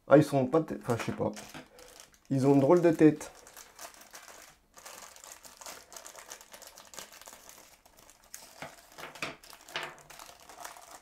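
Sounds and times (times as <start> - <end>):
plastic bag crinkling: 0.7 - 11.0.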